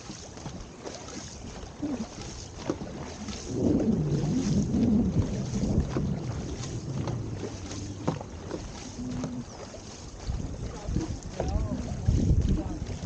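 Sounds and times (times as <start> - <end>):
paddle knocks and splashes: 0.0 - 13.0
wind buffeting microphone: 0.0 - 13.0.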